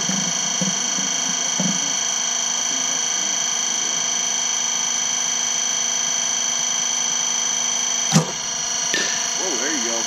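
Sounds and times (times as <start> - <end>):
high-pitched electrical whine: 0.0 - 10.0.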